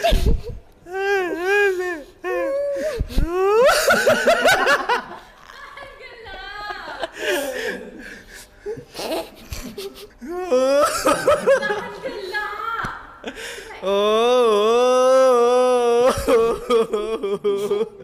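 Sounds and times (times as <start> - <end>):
young men laughing: 0.0 - 18.0.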